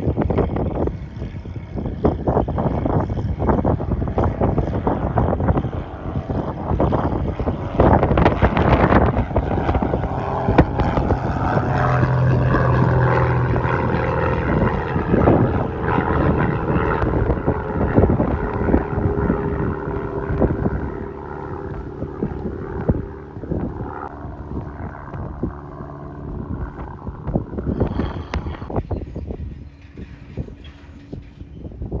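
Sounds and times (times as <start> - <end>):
propeller plane engine running: 0.0 - 32.0
wind buffeting microphone: 0.0 - 32.0.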